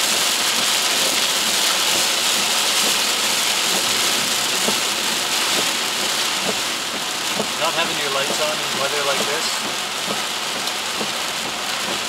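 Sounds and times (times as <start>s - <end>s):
heavy rain on car roof: 0.0s - 12.0s
wipers ticking: 1.6s - 12.0s.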